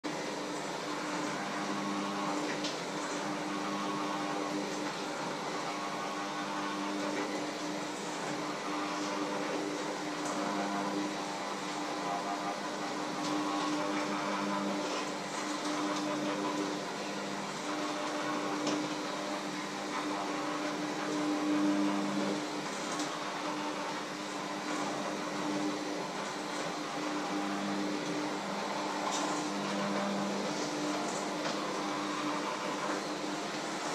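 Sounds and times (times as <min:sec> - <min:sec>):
electric hand mixer running: 0:00.0 - 0:33.9.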